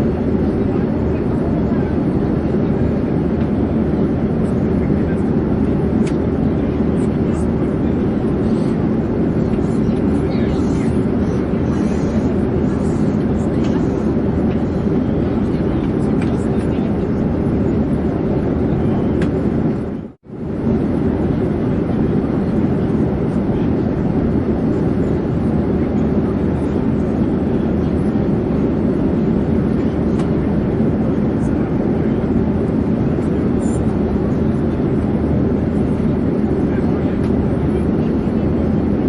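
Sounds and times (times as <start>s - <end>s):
airplane engine rumble: 0.0s - 39.0s.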